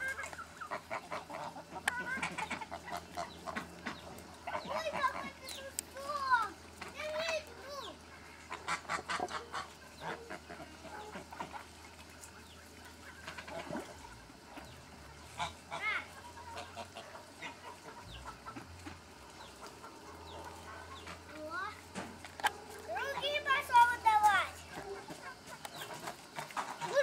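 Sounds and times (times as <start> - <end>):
poultry honking calls: 0.0 - 5.7, 8.0 - 27.0.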